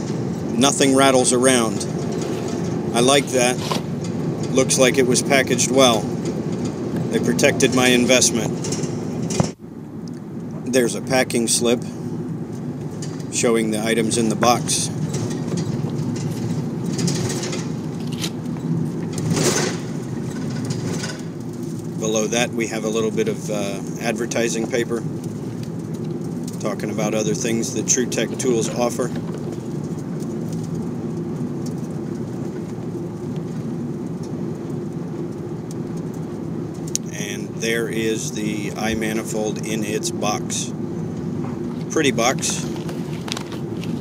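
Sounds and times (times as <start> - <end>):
low mechanical rumble: 0.0 - 44.0.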